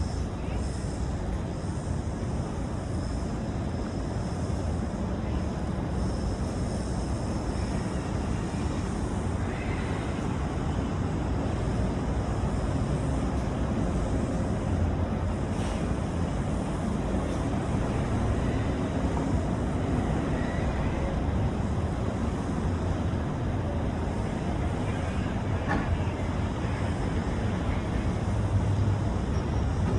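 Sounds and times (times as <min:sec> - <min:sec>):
rushing wind: 0:00.0 - 0:29.9
boat engine rumble: 0:03.4 - 0:29.9.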